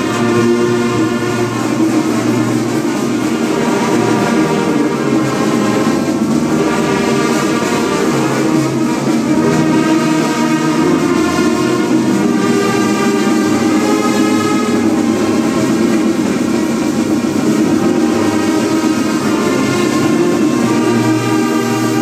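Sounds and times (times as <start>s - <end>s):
bass drums and snare drums: 0.0s - 22.0s
brass band playing: 0.0s - 22.0s.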